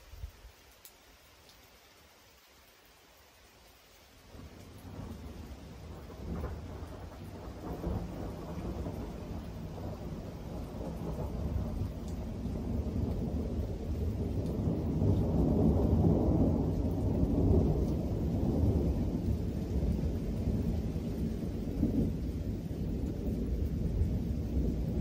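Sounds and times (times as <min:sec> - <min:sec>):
thunder rumbling: 0:04.3 - 0:25.0.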